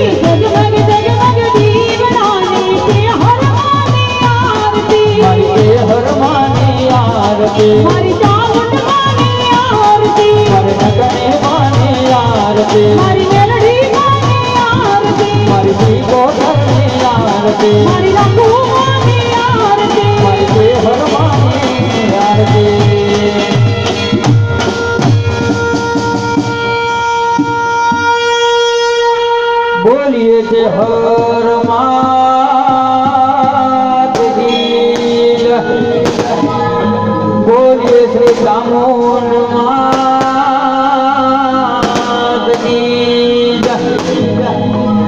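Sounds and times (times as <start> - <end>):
person singing: 0.0 - 24.2, 29.6 - 45.0
sharp percussion strikes: 0.0 - 29.7, 31.0 - 45.0
dhol drumming: 0.0 - 45.0.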